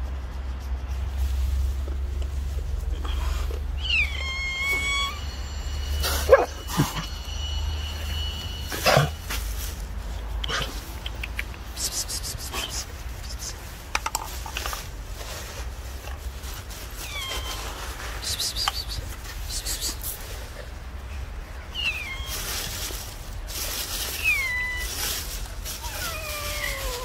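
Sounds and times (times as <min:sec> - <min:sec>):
crisp crackling noise: 0:00.0 - 0:27.0
cats calling: 0:02.5 - 0:13.8, 0:16.4 - 0:27.0.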